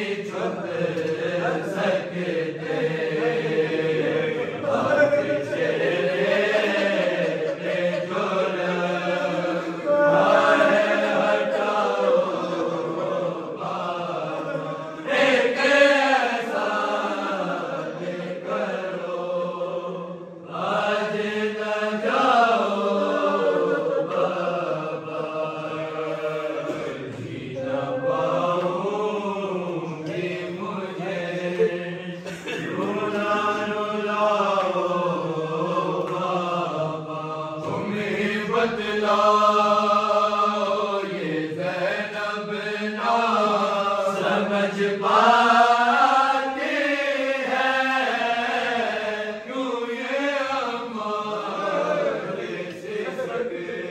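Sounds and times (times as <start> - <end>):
men chanting a lament: 0.0 - 53.9.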